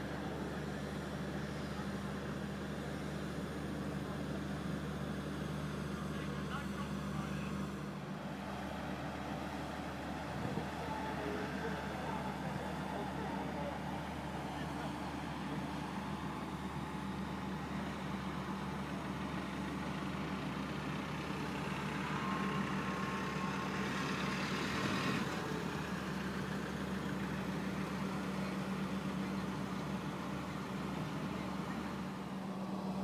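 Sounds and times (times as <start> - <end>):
ship diesel engine hum: 0.0 - 33.0.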